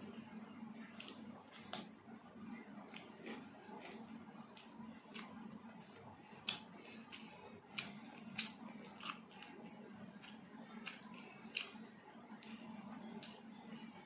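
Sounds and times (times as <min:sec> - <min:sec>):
low steady hum: 0:00.0 - 0:14.0
person chewing food: 0:00.1 - 0:14.0.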